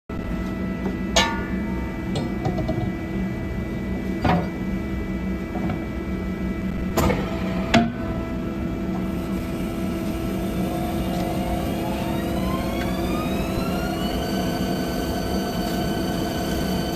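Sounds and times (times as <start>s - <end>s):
machine humming: 0.1s - 16.9s.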